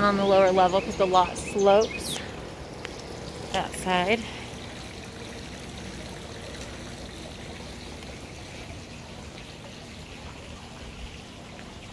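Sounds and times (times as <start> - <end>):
running water trickling: 0.0 - 11.9.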